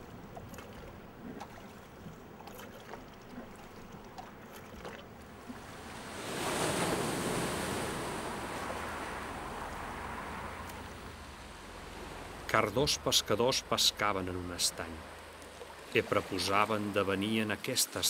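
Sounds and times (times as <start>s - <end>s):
car tyre and engine noise: 0.0s - 17.0s.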